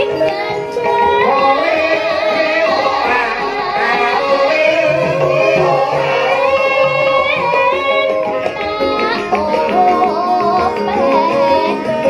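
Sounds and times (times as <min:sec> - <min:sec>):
gamelan music: 0:00.0 - 0:12.0
woman singing into a microphone: 0:00.0 - 0:12.0.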